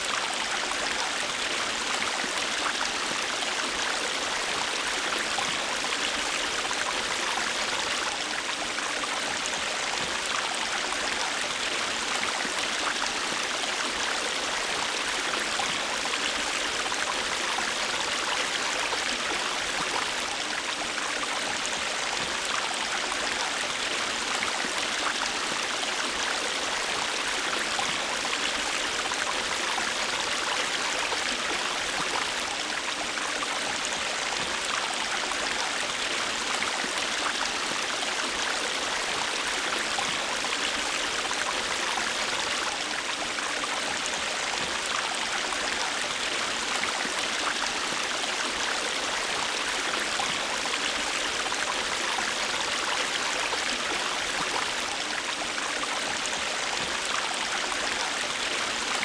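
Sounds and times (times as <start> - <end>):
river water flowing over rocks: 0.0 - 59.0.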